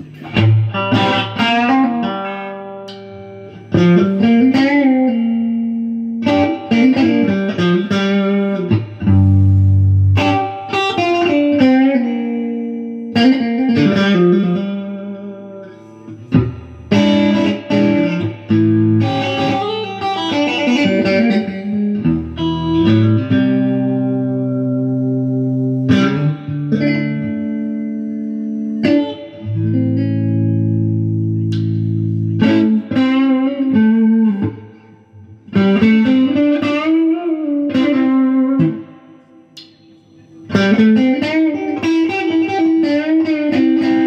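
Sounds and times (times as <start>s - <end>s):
electric guitar through amplifier: 0.0s - 44.0s.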